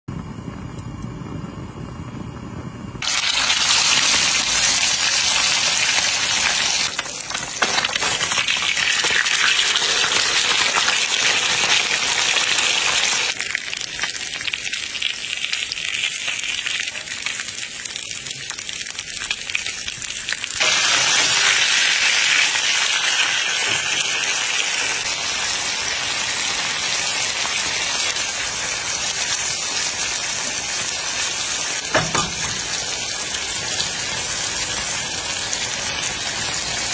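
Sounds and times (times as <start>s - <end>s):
hot oil sizzling: 0.5s - 36.9s.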